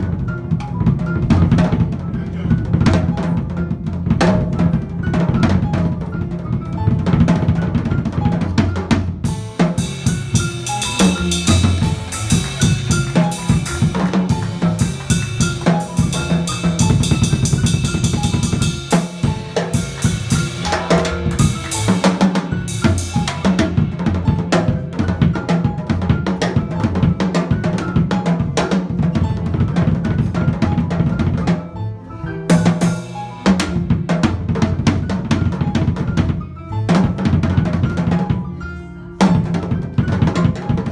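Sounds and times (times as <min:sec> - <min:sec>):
jazz drum kit played with sticks: 0:00.0 - 0:40.9.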